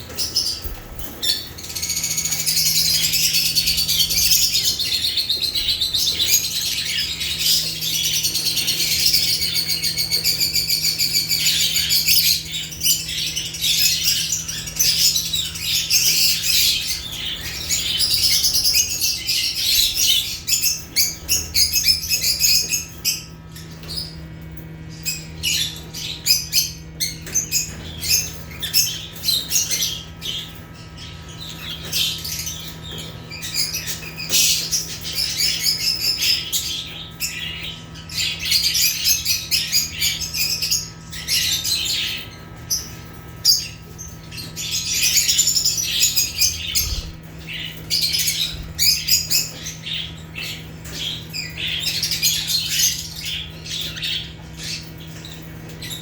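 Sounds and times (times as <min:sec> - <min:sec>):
lovebirds chattering: 0:00.0 - 0:56.0.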